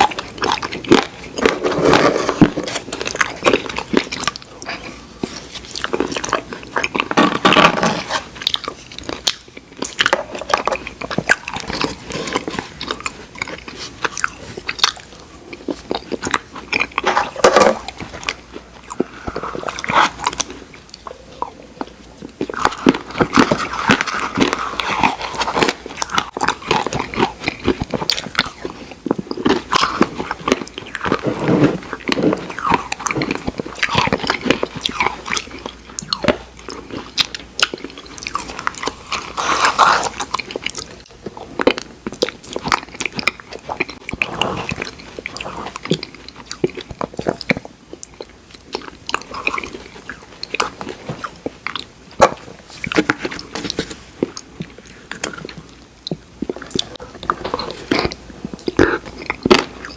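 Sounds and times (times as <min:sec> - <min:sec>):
crunchy chewing and biting: 0:00.0 - 0:59.9.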